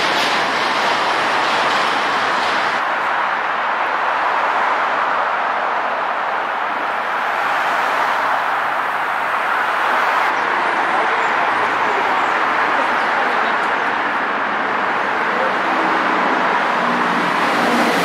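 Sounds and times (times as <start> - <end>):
road traffic hiss: 0.0 - 18.0.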